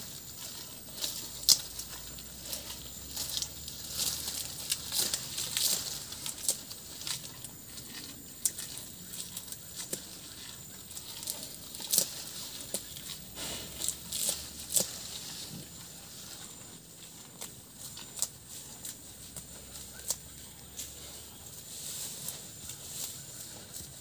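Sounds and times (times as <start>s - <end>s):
cow tearing and chewing grass: 0.0s - 24.0s
undergrowth rustling: 0.0s - 24.0s.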